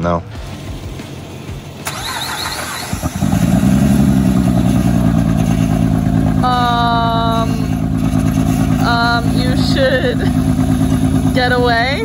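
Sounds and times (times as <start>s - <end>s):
car engine cranking and running: 0.3s - 12.0s.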